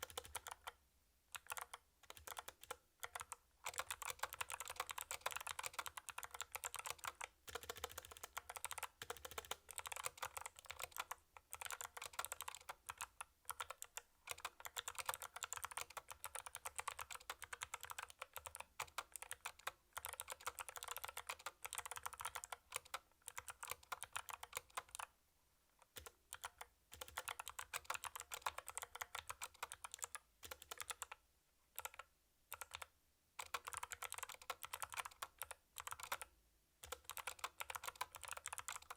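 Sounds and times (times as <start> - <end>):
fast mechanical keyboard typing: 0.0 - 25.1, 25.8 - 31.2, 31.8 - 38.9.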